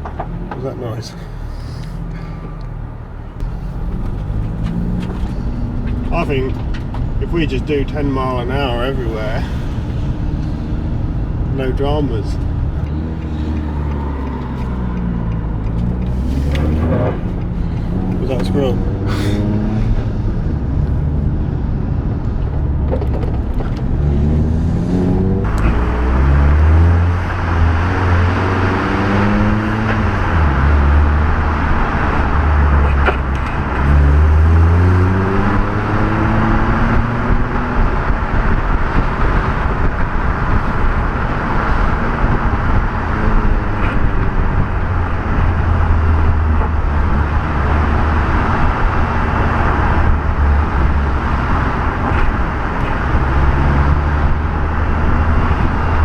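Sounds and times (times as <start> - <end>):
car engine revving: 0.0 - 56.0
road and tyre noise: 0.0 - 56.0.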